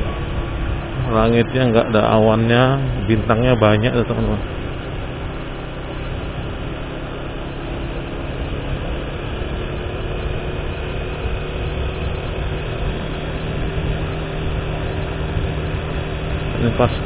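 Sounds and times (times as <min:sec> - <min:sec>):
vehicle engine running: 0:00.0 - 0:17.0
wind and road noise: 0:00.0 - 0:17.0.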